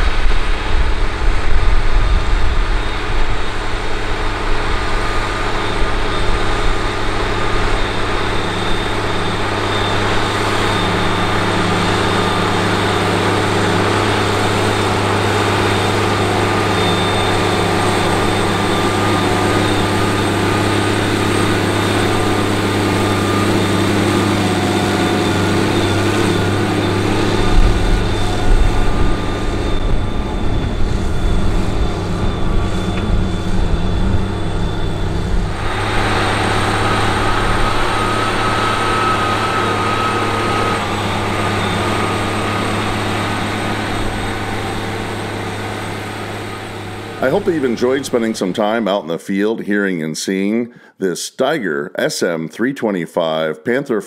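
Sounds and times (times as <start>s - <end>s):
tractor diesel engine rumbling: 0.0s - 49.5s.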